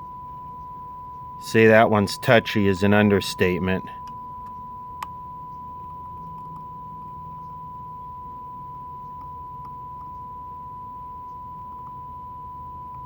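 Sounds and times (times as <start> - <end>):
low hum: 0.0 - 13.0
steady test tone from radio: 0.0 - 13.0.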